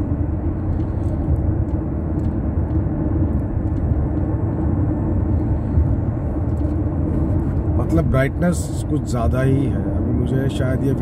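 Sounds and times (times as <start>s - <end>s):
car driving on highway: 0.0s - 11.0s.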